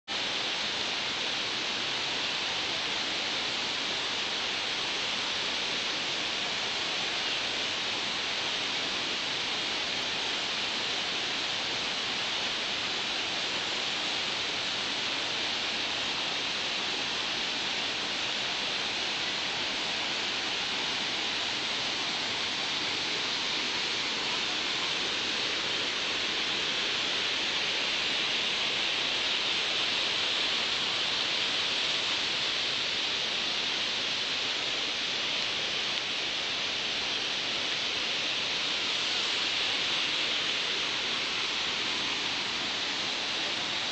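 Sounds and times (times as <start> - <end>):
waterfall and stream splashing: 0.1 - 43.9.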